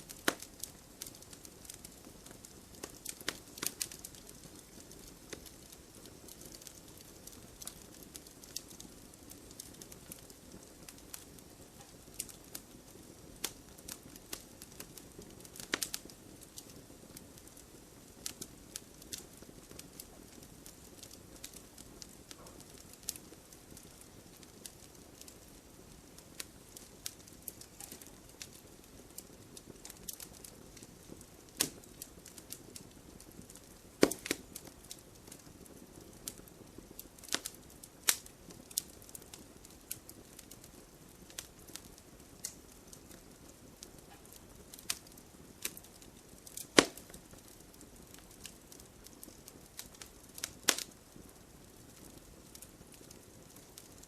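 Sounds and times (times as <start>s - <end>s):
firewood crackling and popping: 0.0s - 54.0s
low hiss of fire: 0.0s - 54.0s.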